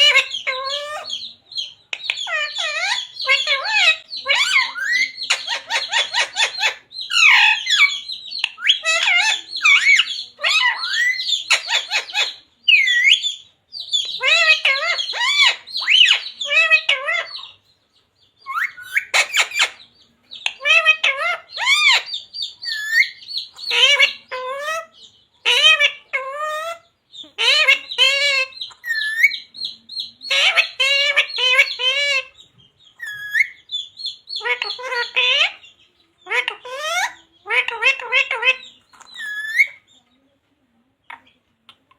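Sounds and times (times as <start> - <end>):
parrot squawking and chattering: 0.0 - 17.7, 18.4 - 40.0.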